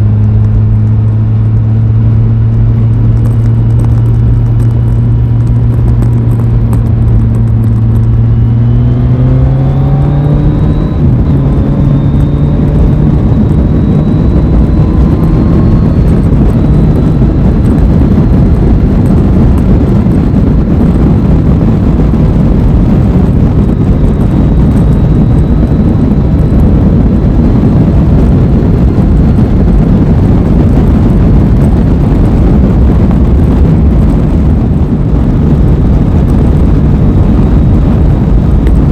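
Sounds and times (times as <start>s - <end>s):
loud rushing wind noise: 0.0s - 38.9s
motorcycle engine accelerating: 0.0s - 38.9s.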